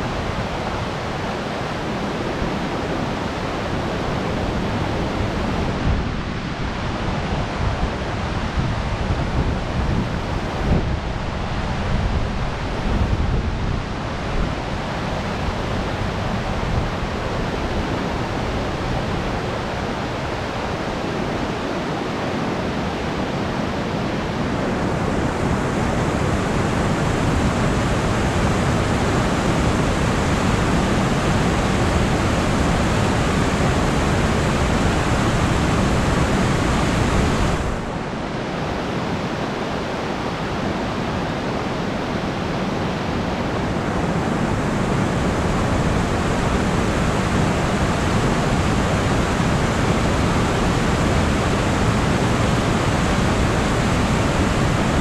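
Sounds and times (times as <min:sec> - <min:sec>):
river water roaring over dam: 0:00.0 - 0:55.0.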